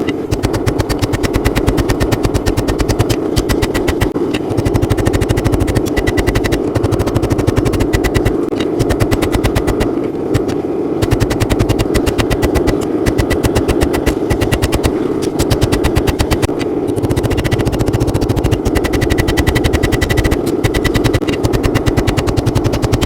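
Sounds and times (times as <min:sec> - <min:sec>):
rapid hammering on hot steel: 0:00.0 - 0:23.0.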